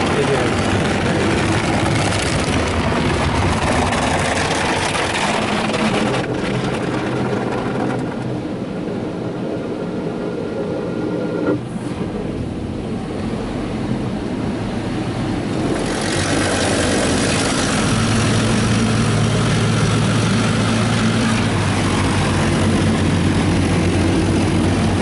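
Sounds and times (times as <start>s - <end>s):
car wash spraying water: 0.0s - 25.0s
steady low hum: 0.0s - 25.0s.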